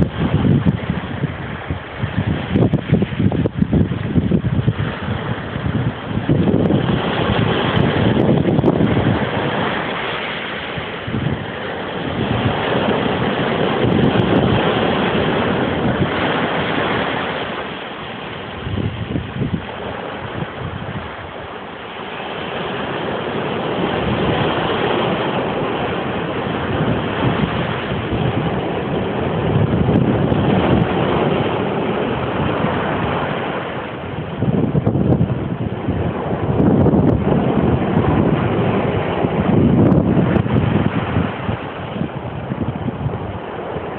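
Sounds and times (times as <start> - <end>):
ocean surf breaking on rocks: 0.0 - 43.9.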